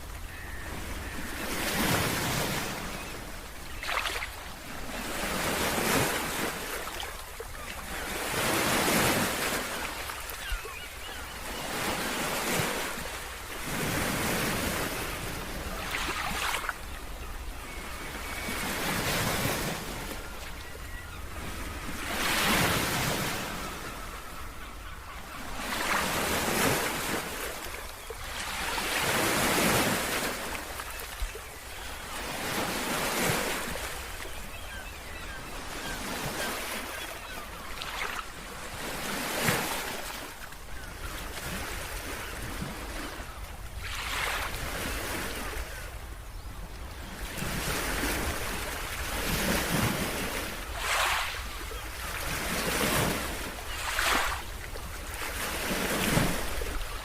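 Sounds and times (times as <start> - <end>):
sea waves breaking on beach: 0.0 - 46.0, 47.0 - 57.0.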